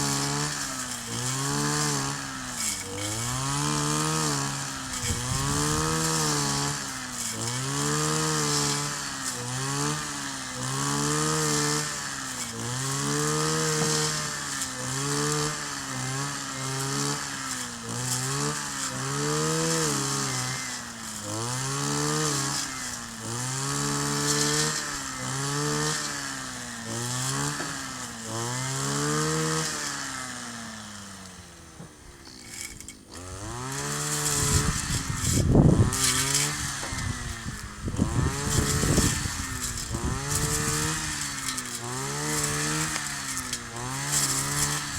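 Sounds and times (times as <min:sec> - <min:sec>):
brush cutter engine revving: 0:00.0 - 0:44.9.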